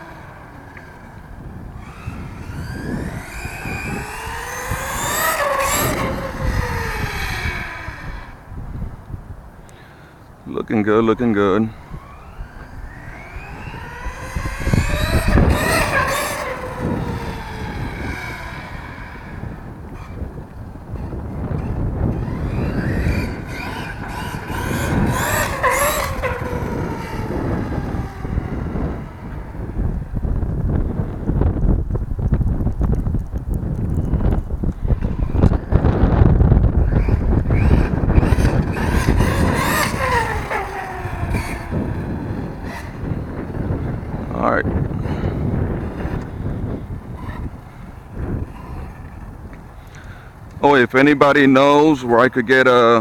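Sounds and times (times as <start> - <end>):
electric motor whining: 0.0 - 51.4
tyres and drivetrain rumble: 0.0 - 53.0.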